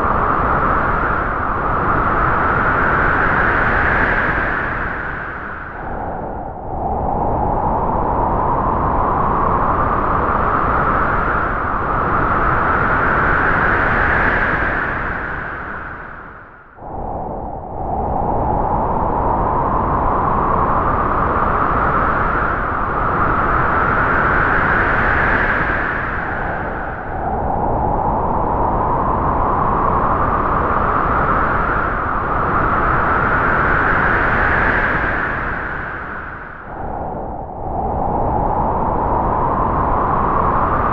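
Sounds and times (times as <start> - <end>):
strong wind howling: 0.0 - 40.9.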